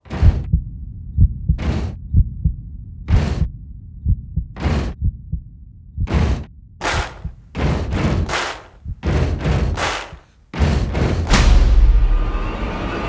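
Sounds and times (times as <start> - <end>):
heartbeat thumps: 0.0 - 11.8.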